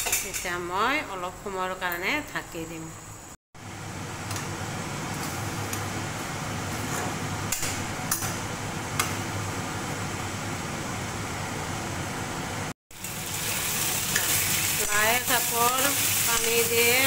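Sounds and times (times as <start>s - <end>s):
steady hiss of frying: 0.2s - 17.0s.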